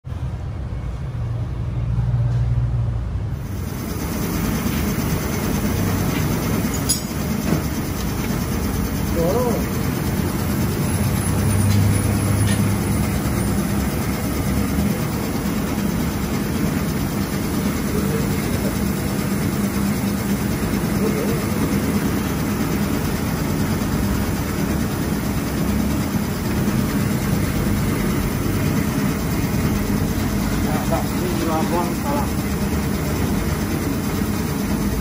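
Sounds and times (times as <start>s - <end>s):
meat slicer humming: 3.4s - 35.0s.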